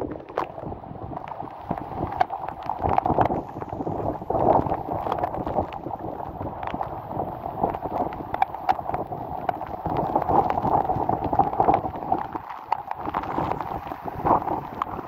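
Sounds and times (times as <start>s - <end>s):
raindrops tapping: 0.0s - 15.0s
torrential rain: 0.0s - 15.0s
wind buffeting the microphone: 0.0s - 15.0s.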